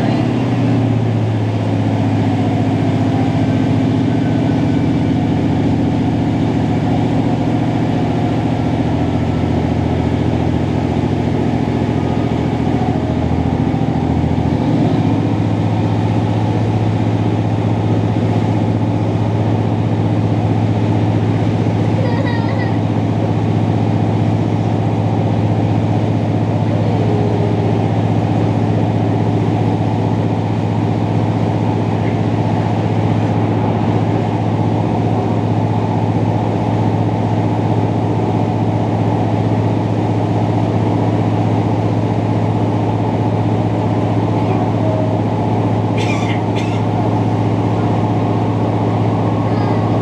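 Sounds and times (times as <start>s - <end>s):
train engine droning: 0.0s - 50.0s.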